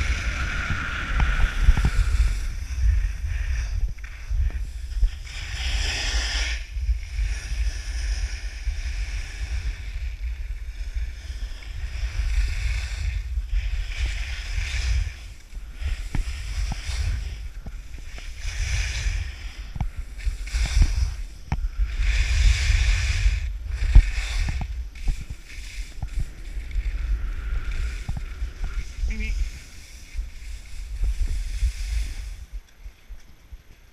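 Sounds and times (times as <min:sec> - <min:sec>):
skis scraping over packed snow: 0:00.0 - 0:33.9
wind buffeting microphone: 0:00.0 - 0:33.9.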